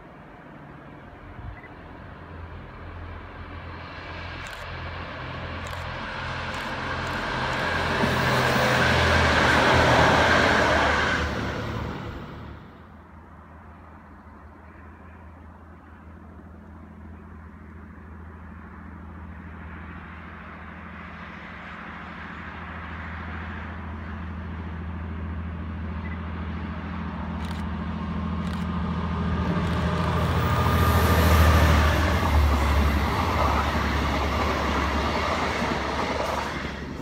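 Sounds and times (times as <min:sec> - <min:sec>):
train engine drone: 0:00.0 - 0:37.0
train wheels on rails: 0:02.2 - 0:13.0, 0:16.3 - 0:37.0.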